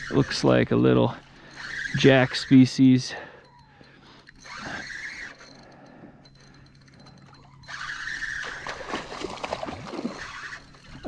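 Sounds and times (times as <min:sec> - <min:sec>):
fishing reel buzzing: 0:00.0 - 0:11.0.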